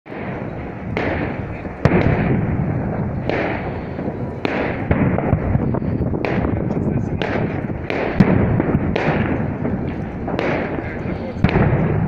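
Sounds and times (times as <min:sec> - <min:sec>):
background noise: 0:00.1 - 0:12.0
fireworks bursting: 0:00.1 - 0:12.0.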